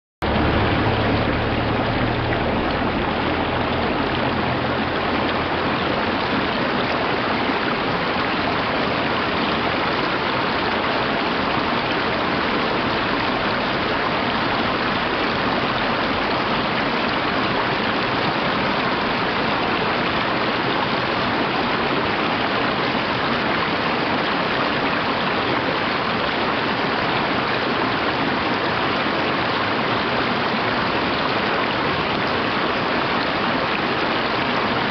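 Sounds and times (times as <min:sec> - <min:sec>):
stream rushing over rocks: 0:00.2 - 0:34.9.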